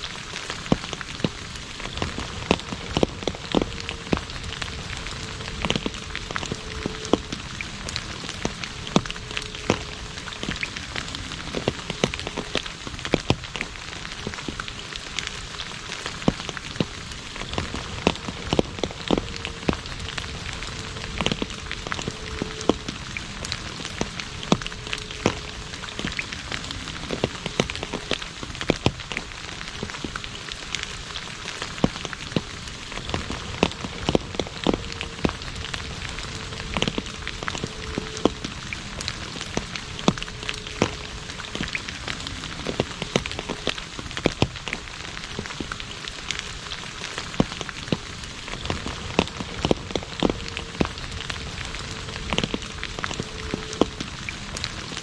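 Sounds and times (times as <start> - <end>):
rain falling on asphalt: 0.0 - 55.0.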